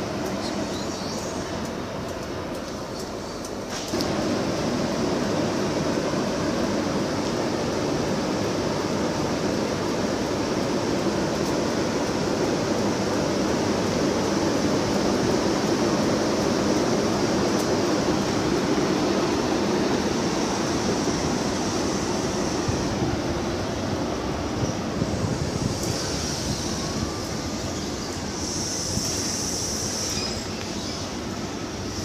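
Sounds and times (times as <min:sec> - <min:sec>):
electric locomotive passing: 0:00.0 - 0:32.0.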